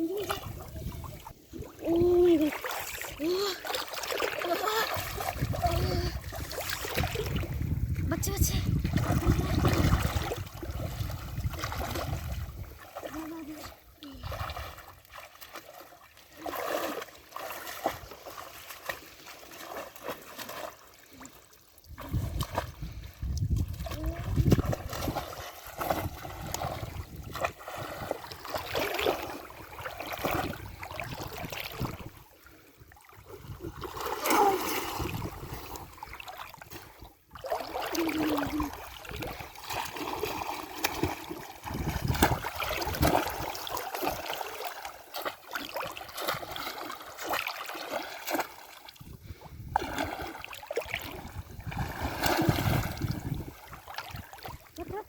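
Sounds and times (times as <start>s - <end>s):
pond water splashing: 0.0s - 55.0s.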